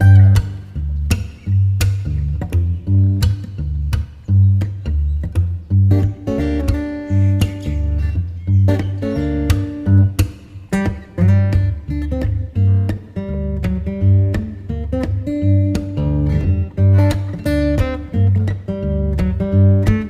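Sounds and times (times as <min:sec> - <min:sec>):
bass line: 0:00.0 - 0:20.0
strummed acoustic guitar: 0:00.0 - 0:20.0.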